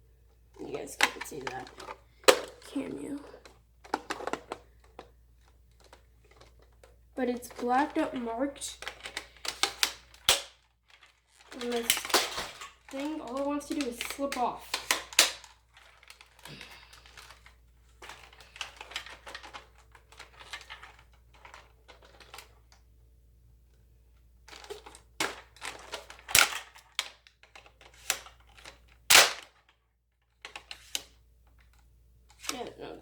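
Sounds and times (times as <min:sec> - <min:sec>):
plastic toy blaster clicks and rattles: 0:00.8 - 0:22.8, 0:24.5 - 0:32.8.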